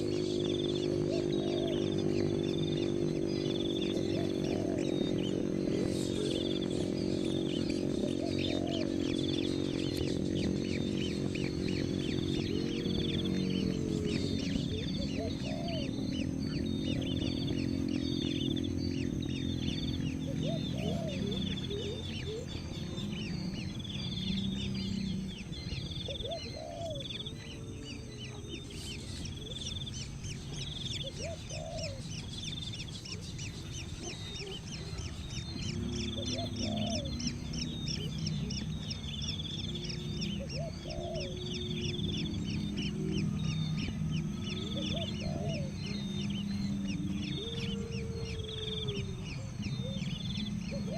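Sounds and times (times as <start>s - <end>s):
low hum: 0.0s - 50.9s.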